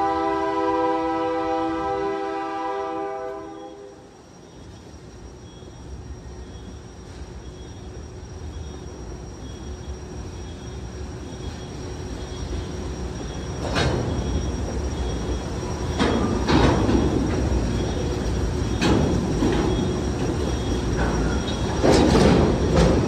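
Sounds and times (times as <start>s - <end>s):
train rumbling past: 0.0s - 23.0s
faint high squeal: 3.4s - 22.7s.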